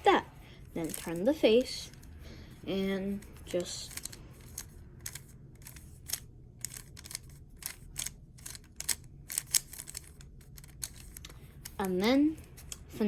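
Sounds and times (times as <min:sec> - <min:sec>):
puzzle cube plastic clicks: 0:00.8 - 0:02.1, 0:03.2 - 0:13.0.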